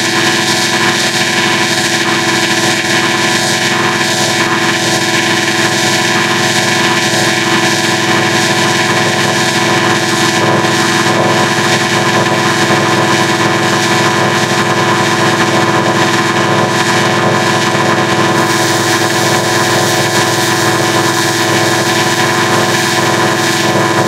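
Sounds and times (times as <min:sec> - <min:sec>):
processed droning tones: 0:00.0 - 0:24.0.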